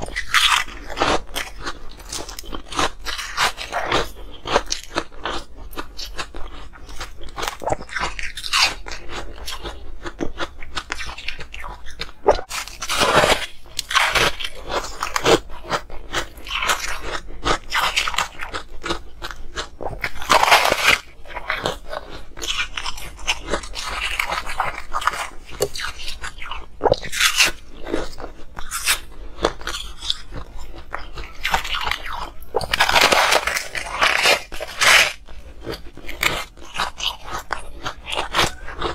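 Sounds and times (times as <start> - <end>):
crunching ice between teeth: 0.0 - 38.9.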